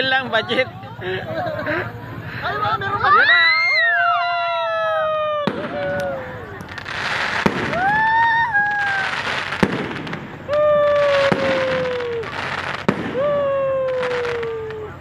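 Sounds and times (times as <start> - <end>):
fireworks crackle: 0.0 - 15.0
fireworks bangs: 1.5 - 15.0.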